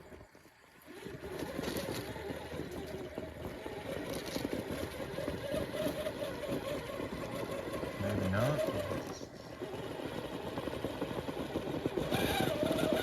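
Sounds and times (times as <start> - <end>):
electric motor and drivetrain whining: 0.0 - 13.0.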